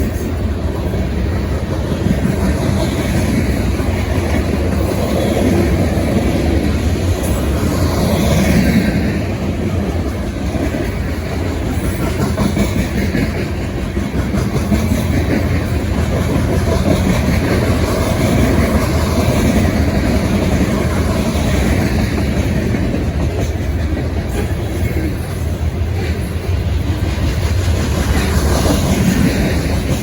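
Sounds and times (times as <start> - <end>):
freight train rolling past: 0.0 - 30.0.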